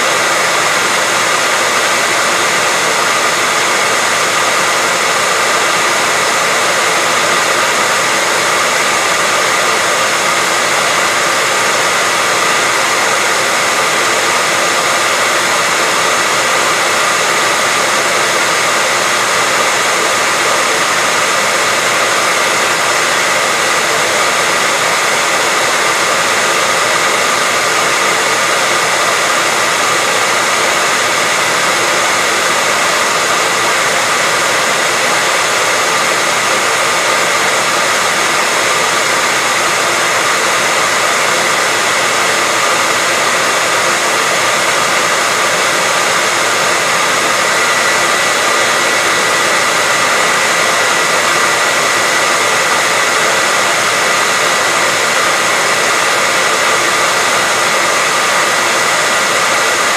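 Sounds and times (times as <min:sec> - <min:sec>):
hairdryer running: 0:00.0 - 0:59.9.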